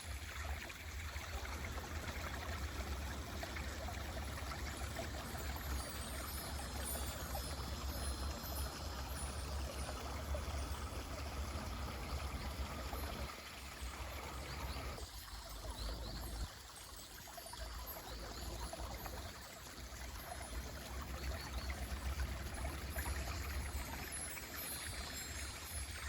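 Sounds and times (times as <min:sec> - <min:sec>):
stream babbling: 0:00.0 - 0:26.0.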